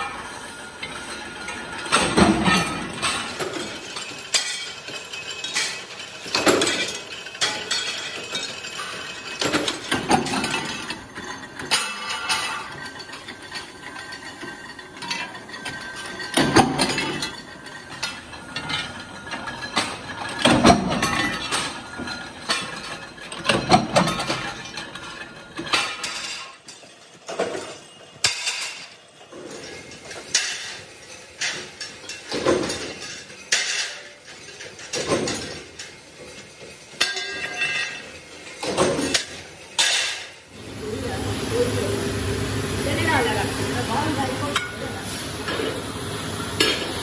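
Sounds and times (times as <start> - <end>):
metal discs clanking on a pile: 0.0 - 40.5, 42.8 - 47.0.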